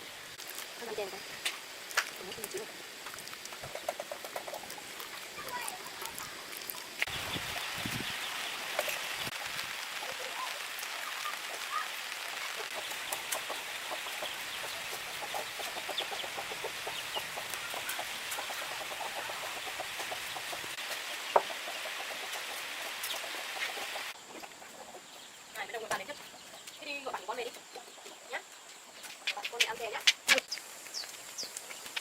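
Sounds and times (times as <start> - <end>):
chickens clucking: 0.8 - 9.4, 12.5 - 32.0.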